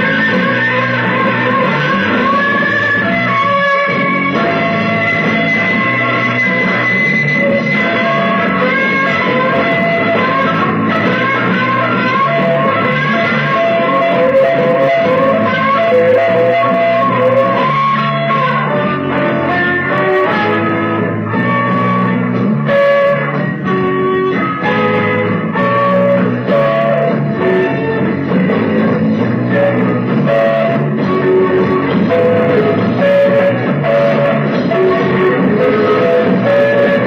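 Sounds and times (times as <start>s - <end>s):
steady bass line: 0.0s - 37.0s
sustained electric guitar notes: 0.0s - 37.0s.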